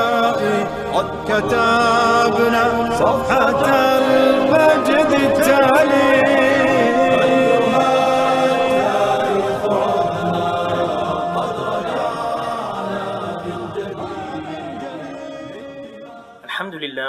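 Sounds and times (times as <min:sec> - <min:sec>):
choir singing a cappella: 0:00.0 - 0:16.5.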